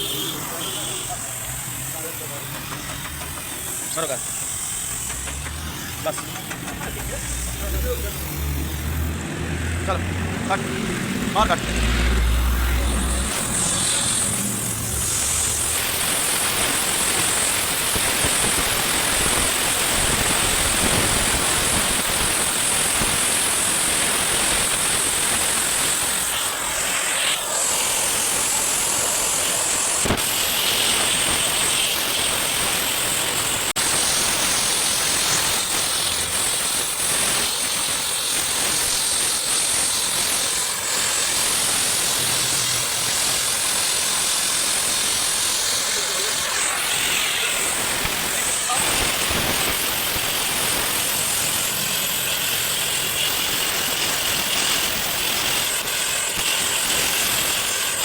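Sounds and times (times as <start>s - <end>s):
metal cutting with hiss: 0.0s - 58.0s.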